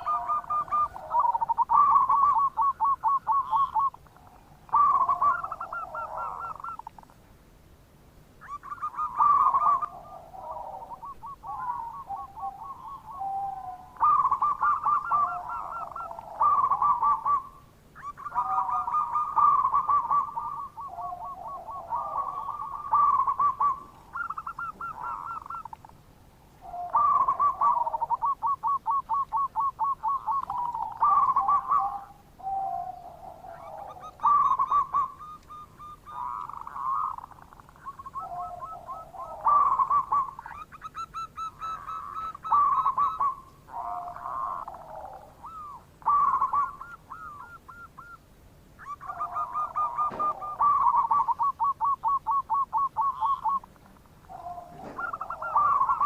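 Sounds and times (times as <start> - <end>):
doves cooing: 0.0 - 7.3, 8.4 - 56.0.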